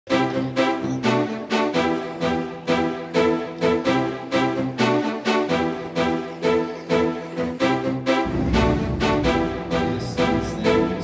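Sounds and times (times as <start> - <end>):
pulsing pitched chords: 0.1 - 11.0
string-like tones: 0.1 - 11.0.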